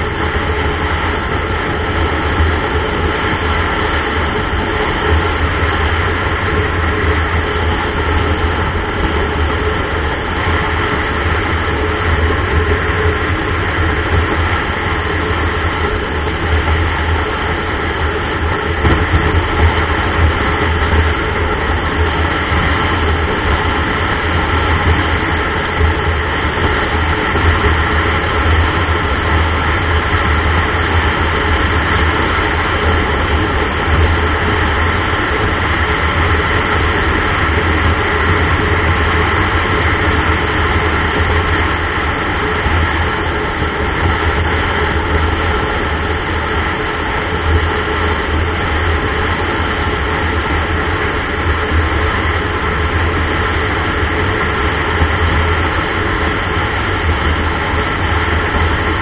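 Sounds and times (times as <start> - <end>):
vehicle cruising on highway: 0.0 - 59.0.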